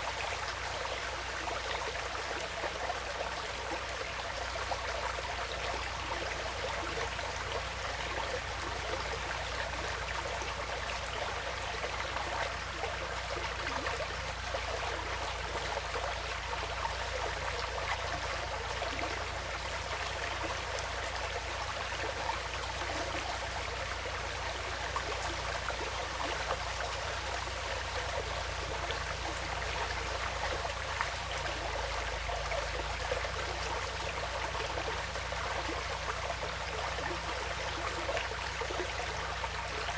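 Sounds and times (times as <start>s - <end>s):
low steady rumble: 0.0s - 39.9s
stream trickling: 0.0s - 39.9s.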